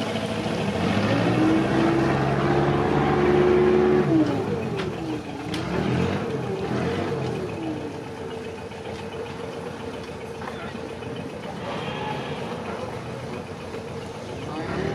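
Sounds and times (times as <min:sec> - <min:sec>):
engine running: 0:00.0 - 0:14.9.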